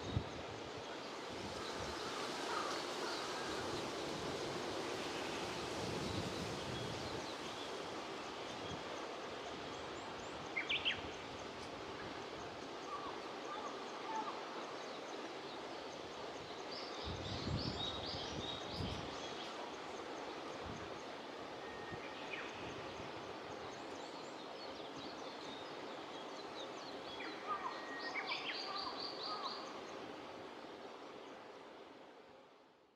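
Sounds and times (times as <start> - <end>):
steady outdoor hiss: 0.0 - 32.9.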